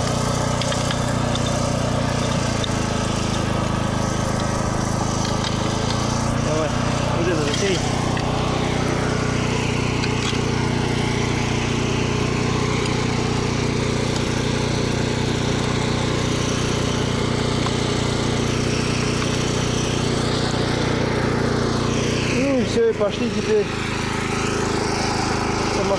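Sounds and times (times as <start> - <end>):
generator engine droning: 0.0 - 25.9.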